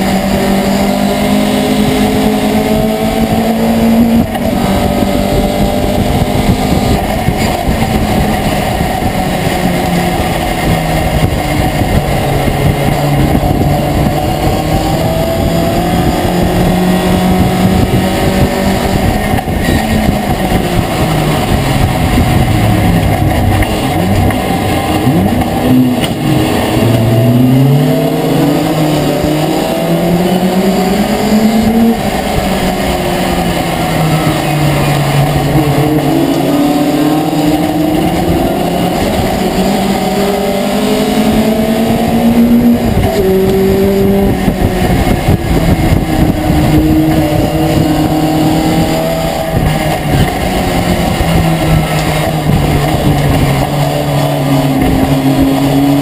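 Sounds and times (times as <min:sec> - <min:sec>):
racing truck engine revving: 0:00.0 - 0:56.0.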